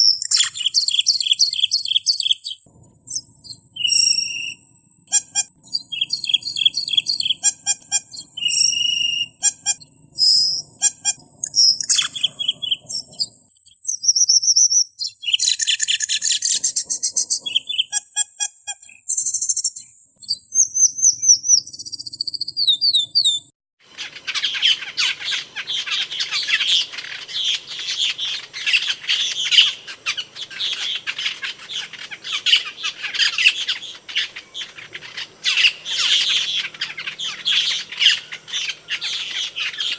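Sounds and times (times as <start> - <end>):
recorded birdsong chirps and trills: 0.0 - 39.9
scratchy bird chatter: 0.0 - 39.9.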